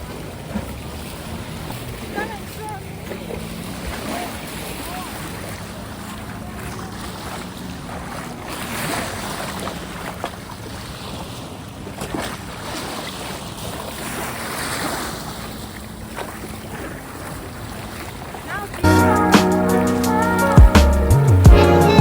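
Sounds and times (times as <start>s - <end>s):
jet ski engine hum: 0.0s - 22.0s
sea water rushing and waves: 0.0s - 22.0s.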